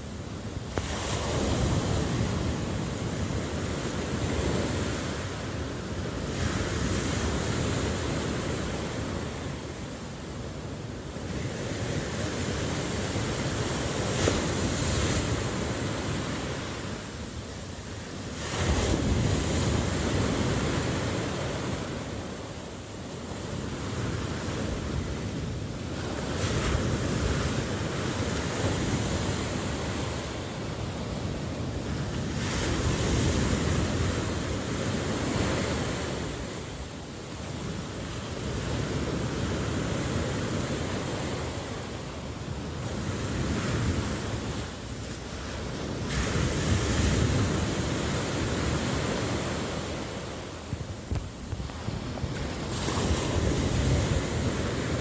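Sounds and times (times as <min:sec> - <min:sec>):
wind noise: 0:00.0 - 0:55.0
ocean waves breaking: 0:00.2 - 0:55.0.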